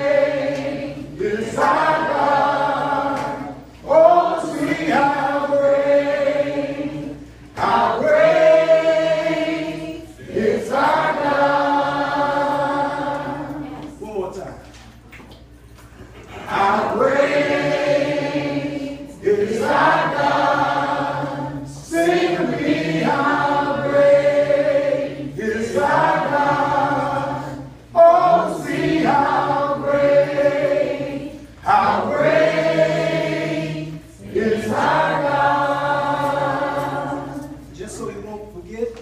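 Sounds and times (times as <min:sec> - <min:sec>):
group singing a cappella: 0:00.0 - 0:14.0, 0:15.9 - 0:38.2.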